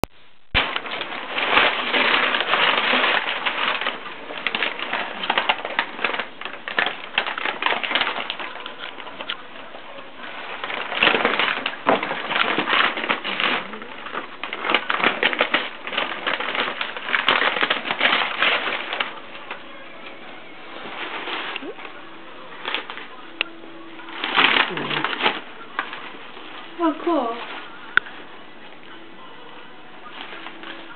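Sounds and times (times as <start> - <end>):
dog tearing wrapping paper: 0.6 - 29.1, 29.8 - 30.9.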